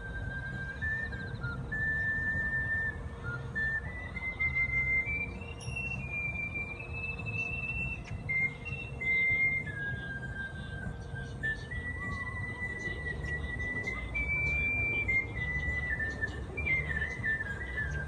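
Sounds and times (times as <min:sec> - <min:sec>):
ocarina melody: 0:00.0 - 0:18.0.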